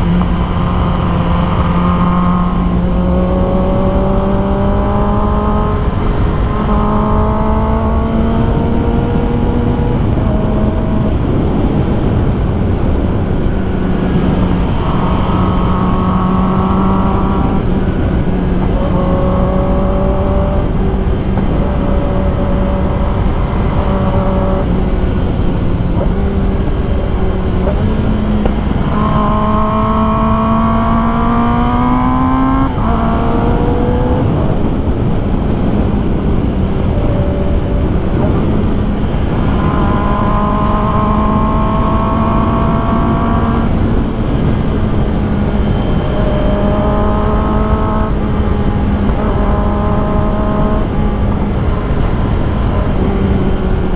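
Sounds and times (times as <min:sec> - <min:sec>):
motorcycle engine: 0:00.0 - 0:53.9
wind rush: 0:00.0 - 0:53.9.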